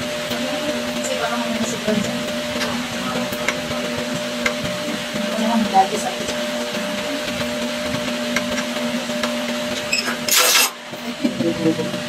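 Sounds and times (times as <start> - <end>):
machine motor humming: 0.0 - 12.0.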